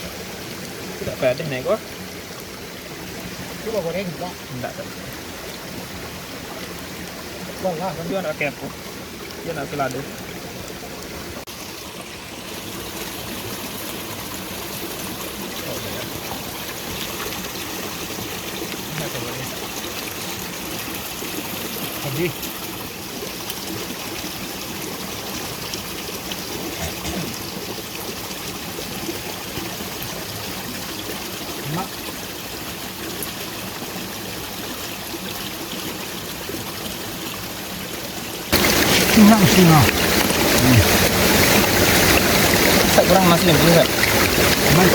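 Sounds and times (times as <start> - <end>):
stream flowing: 0.0 - 44.9.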